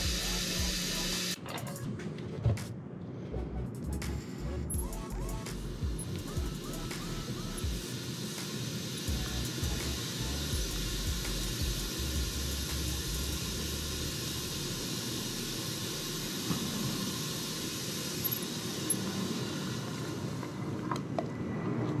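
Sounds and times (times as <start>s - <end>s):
compressed air hissing: 0.0s - 1.4s, 3.8s - 20.9s.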